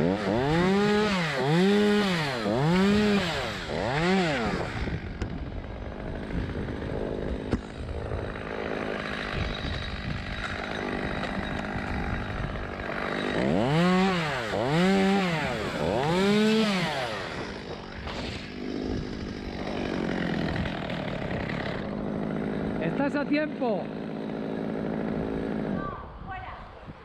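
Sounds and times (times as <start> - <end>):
chainsaw running and revving: 0.0 - 26.2.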